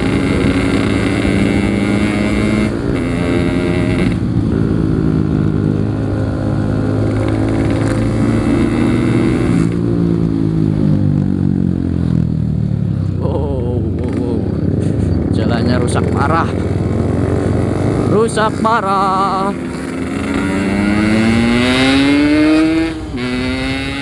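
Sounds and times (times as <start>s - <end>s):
two-stroke motorcycle engine running: 0.0s - 24.0s.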